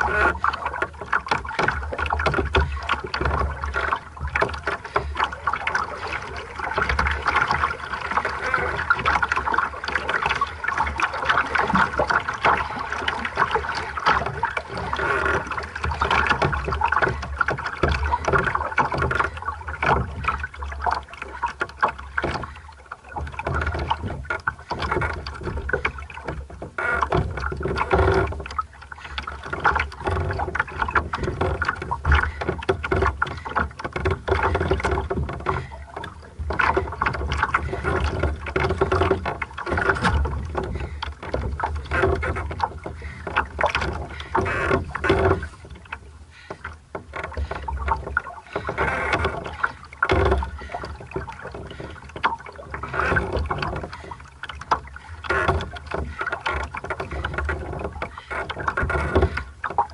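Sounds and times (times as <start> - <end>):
water lapping against hull: 0.0 - 59.9.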